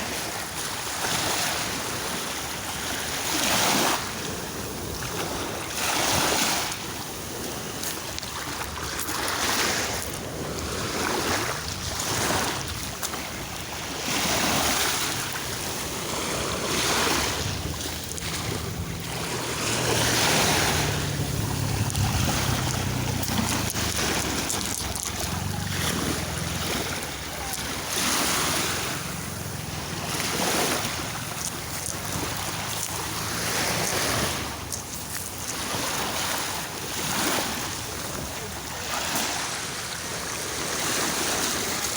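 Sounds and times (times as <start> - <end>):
wind rumbling on microphone: 0.0 - 39.8
sea waves breaking: 0.0 - 41.9.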